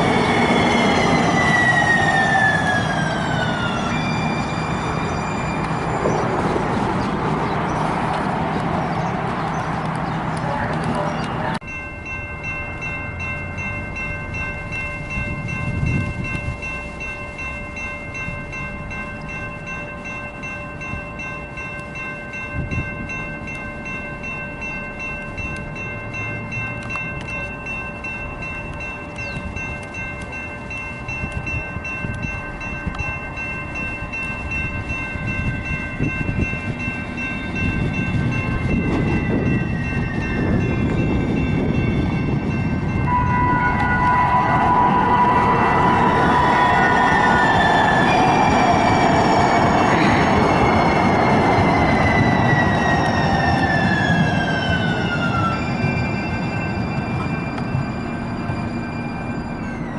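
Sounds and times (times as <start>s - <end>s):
light rail train rumble: 0.0s - 59.9s
steady high ringing tones: 10.4s - 59.9s.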